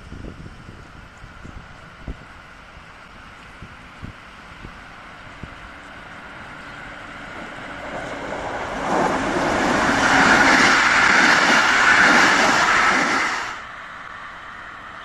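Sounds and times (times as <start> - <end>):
train passing on track: 0.0 - 15.0.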